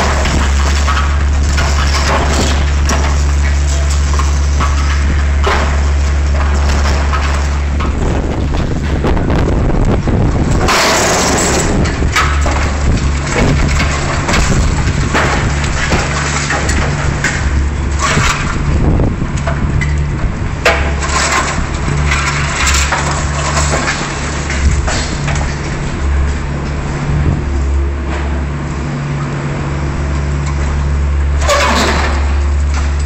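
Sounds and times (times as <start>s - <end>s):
crunching of building material: 0.0s - 33.0s
excavator diesel engine: 0.0s - 33.0s.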